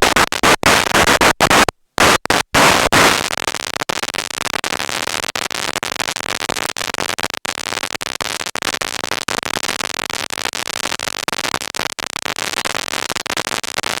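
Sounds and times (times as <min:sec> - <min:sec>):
crackling static: 0:00.0 - 0:14.0.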